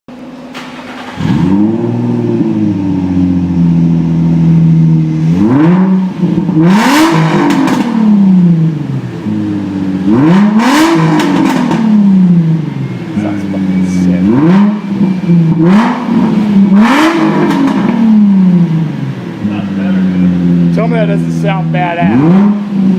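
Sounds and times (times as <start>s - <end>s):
car engine revving: 0.2s - 22.9s.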